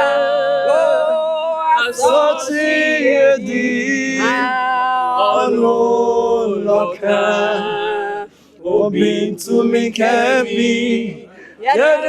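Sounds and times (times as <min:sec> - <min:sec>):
group singing in harmony: 0:00.0 - 0:12.0.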